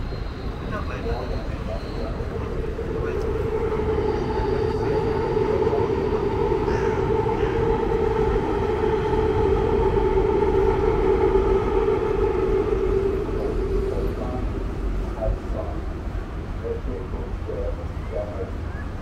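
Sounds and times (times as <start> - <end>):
boat engine humming: 0.0 - 19.0
low rumble: 0.8 - 18.7.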